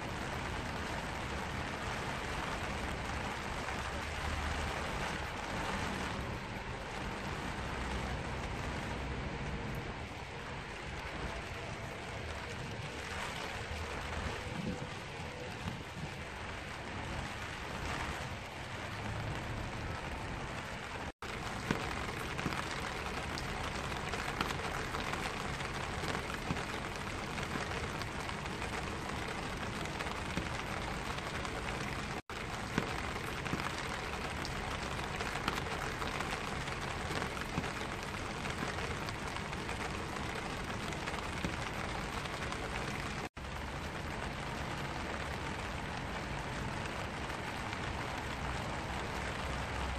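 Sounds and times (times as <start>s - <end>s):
rain on an umbrella: 0.0s - 49.9s.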